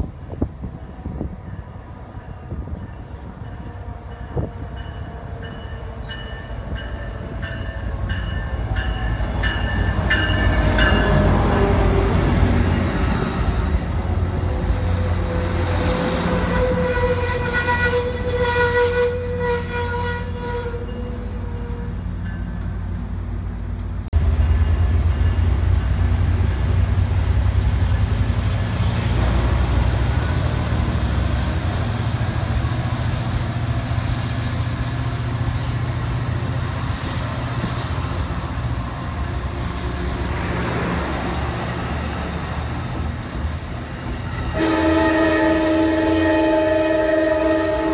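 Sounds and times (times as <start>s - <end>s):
diesel locomotive droning: 0.0s - 47.9s.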